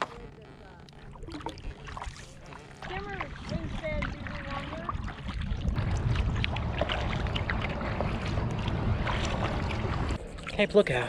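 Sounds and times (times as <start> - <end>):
paddle splashing water: 0.0 - 11.0
wind buffeting microphone: 1.1 - 10.4.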